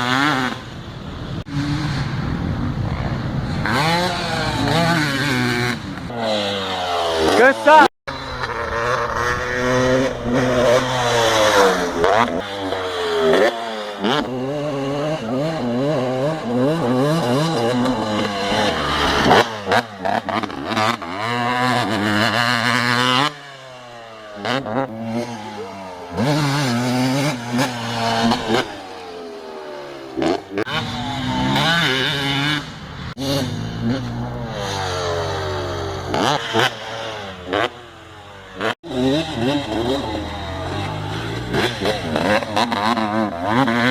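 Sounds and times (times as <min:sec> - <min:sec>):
motocross engine revving: 0:00.0 - 0:43.9.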